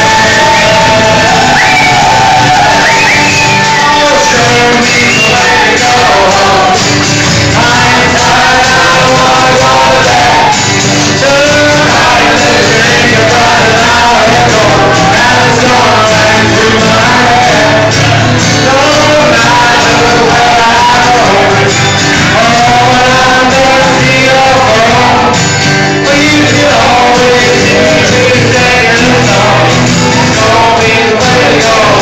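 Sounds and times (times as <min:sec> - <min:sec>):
guitars playing: 0:00.0 - 0:32.0
man singing into a microphone: 0:00.0 - 0:32.0.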